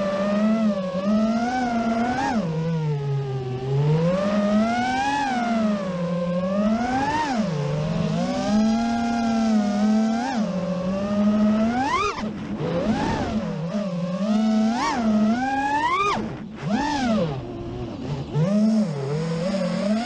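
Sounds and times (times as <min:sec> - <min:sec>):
quadcopter propellers whining: 0:00.0 - 0:20.0.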